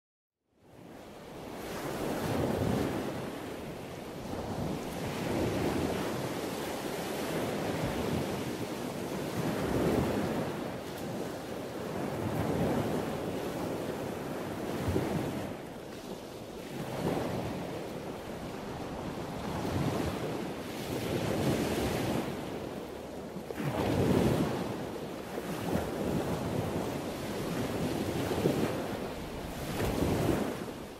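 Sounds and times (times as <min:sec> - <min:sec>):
ocean waves washing: 0:00.8 - 0:30.9.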